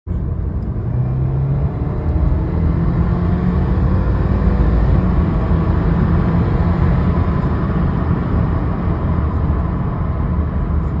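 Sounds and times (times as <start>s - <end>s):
car engine and exhaust droning: 0.1s - 11.0s.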